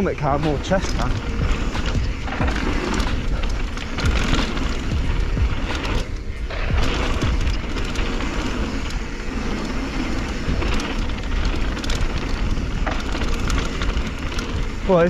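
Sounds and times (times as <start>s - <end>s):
bike clicks and rattles: 0.0s - 15.0s
tyres crunching over dirt and gravel: 0.0s - 15.0s.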